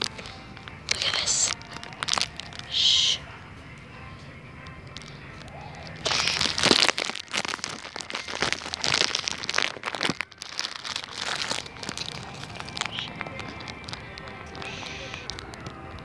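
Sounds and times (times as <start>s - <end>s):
close crunching and crinkling: 0.0s - 16.0s.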